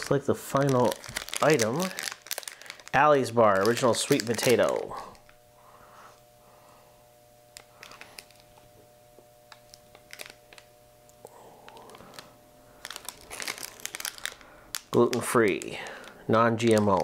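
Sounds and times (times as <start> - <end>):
plastic wrapper crinkling: 0.0 - 5.4, 7.5 - 8.8, 9.5 - 17.0
faint steady hum: 0.0 - 17.0.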